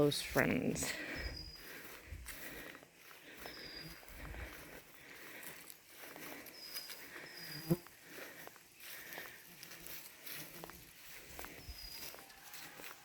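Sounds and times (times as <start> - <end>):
footsteps on woodland floor: 0.0 - 13.0.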